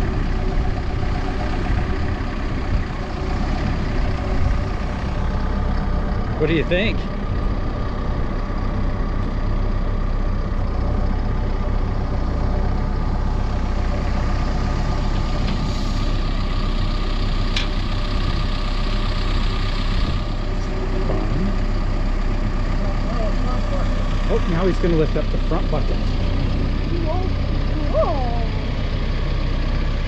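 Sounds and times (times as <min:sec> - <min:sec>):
backhoe diesel engine running: 0:00.0 - 0:30.0.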